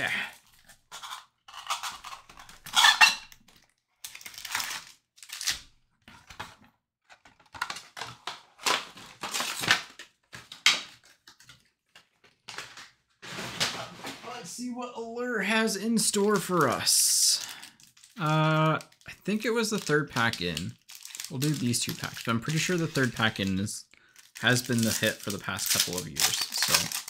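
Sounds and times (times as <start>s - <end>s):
wrapper and cardboard crinkling: 0.0s - 14.1s, 15.5s - 27.0s.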